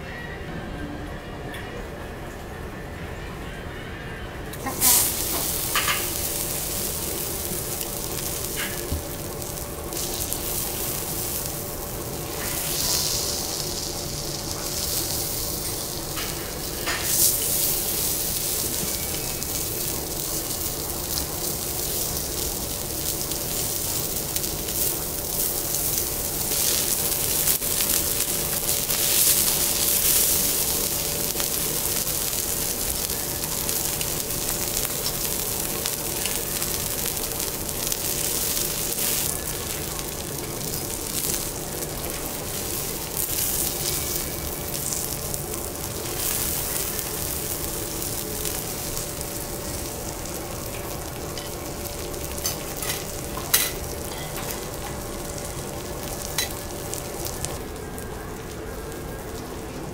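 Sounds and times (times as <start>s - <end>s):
beef sizzling on a hot griddle: 4.6s - 59.5s.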